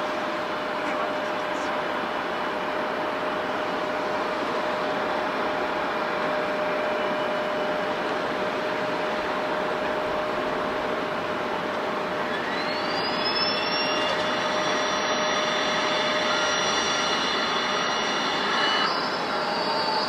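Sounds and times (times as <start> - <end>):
jet engine whine: 0.0 - 20.0
jet engines roaring: 0.0 - 20.0.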